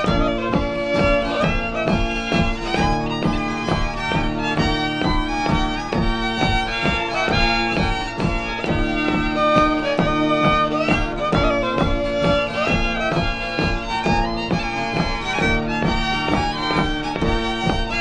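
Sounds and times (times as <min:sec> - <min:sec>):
fiddle playing a melody: 0:00.0 - 0:18.0.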